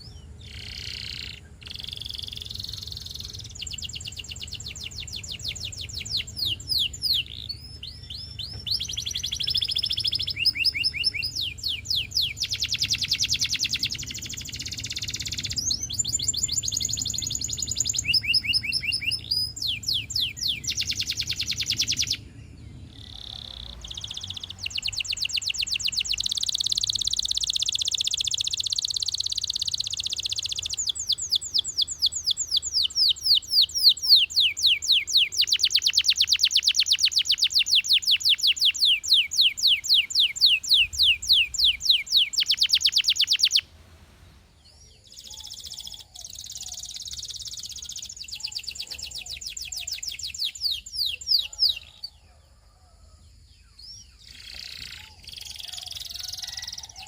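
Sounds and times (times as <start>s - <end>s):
canary singing fast trills: 0.0s - 57.0s.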